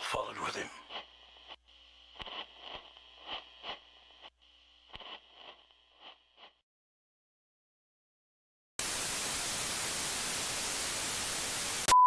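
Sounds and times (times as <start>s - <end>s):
crackling static hiss: 0.0s - 6.6s, 8.8s - 11.9s.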